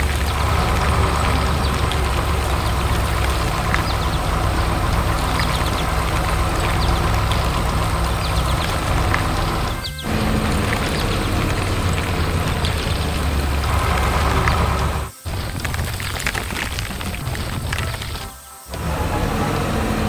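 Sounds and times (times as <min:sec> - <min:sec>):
construction machine engine rumbling: 0:00.0 - 0:20.0.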